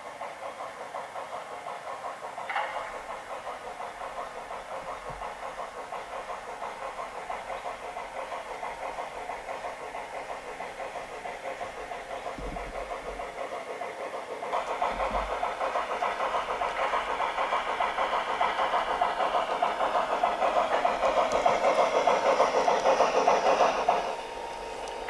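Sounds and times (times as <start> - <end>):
model steam locomotive chuffing: 0.0 - 25.0.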